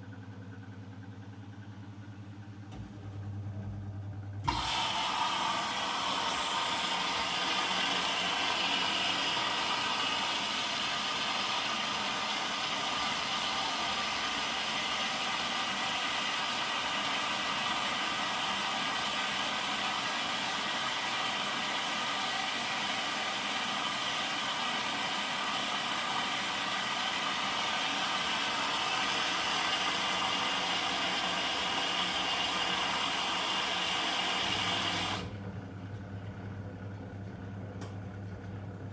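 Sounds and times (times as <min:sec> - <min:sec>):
washing machine motor whine: 0:00.0 - 0:38.9.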